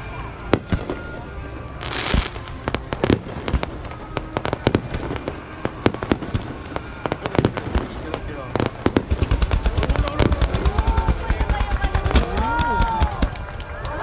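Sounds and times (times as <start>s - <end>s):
fireworks bangs: 0.0s - 14.0s
fireworks hiss: 0.0s - 14.0s.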